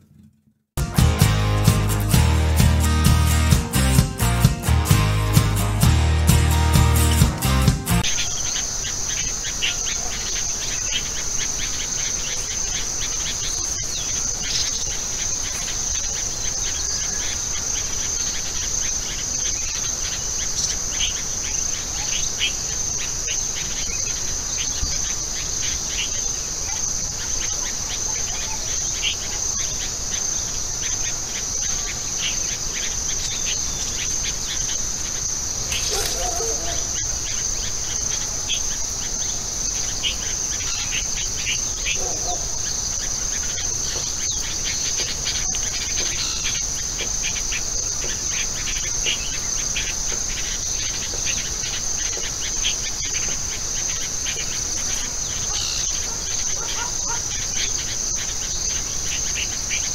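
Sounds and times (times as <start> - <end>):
insect chorus shrill: 8.0 - 59.9
short insect chirps: 8.0 - 59.9.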